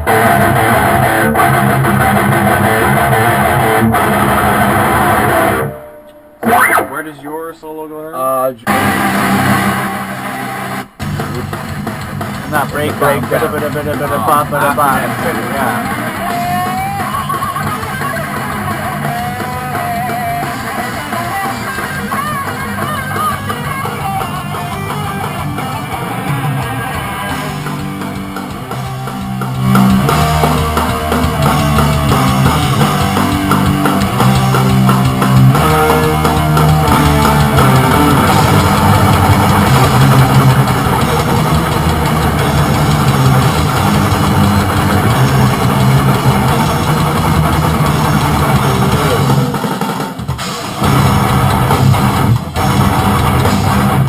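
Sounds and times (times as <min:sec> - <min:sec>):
electric guitar lead: 0:00.0 - 0:07.8, 0:08.6 - 0:54.0
rock band playing: 0:00.0 - 0:07.8, 0:08.6 - 0:54.0.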